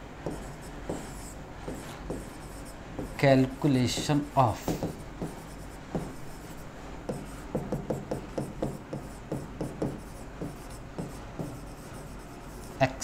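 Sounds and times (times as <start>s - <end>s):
marker writing on whiteboard: 0.2s - 13.0s.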